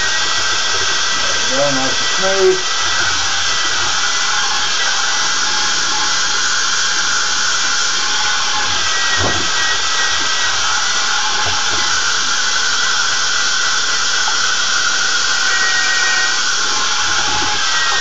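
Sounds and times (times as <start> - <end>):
power drill whining: 0.0 - 18.0.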